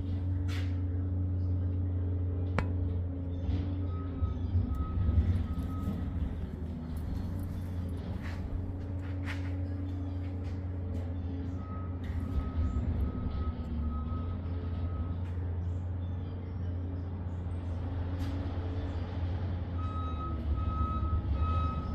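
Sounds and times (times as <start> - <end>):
engine droning: 0.0 - 21.9.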